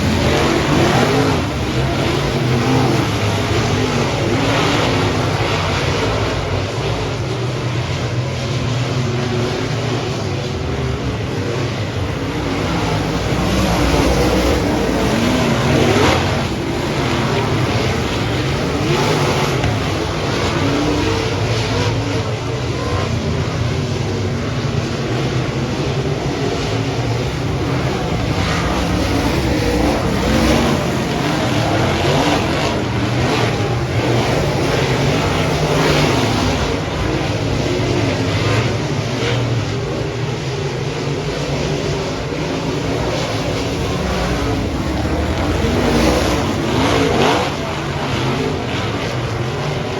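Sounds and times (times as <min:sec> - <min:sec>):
race car engines revving: 0:00.0 - 0:49.9.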